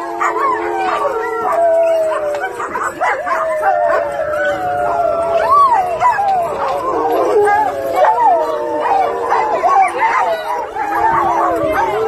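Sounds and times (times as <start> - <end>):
dogs howling: 0.0 - 12.0
dogs yipping: 0.0 - 12.0.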